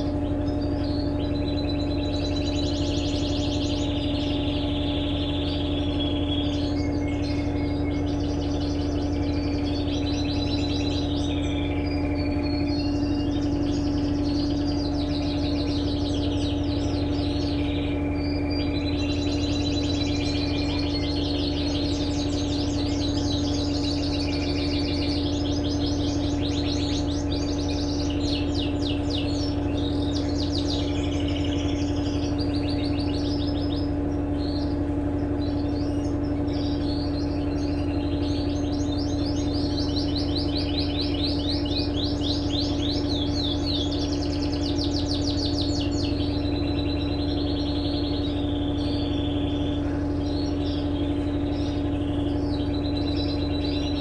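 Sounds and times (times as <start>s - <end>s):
birds chirping: 0.0s - 54.0s
washing machine hum: 0.0s - 54.0s.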